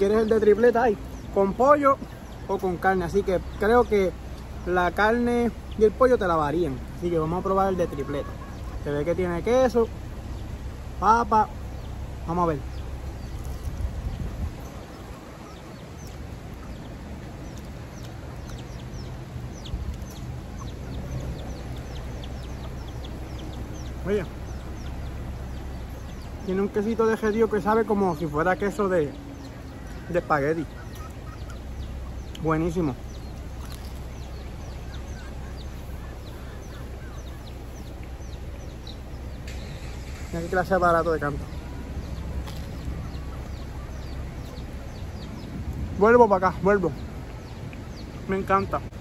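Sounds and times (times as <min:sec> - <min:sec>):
birds chirping: 0:00.0 - 0:49.0
steady low rumble: 0:00.0 - 0:49.0.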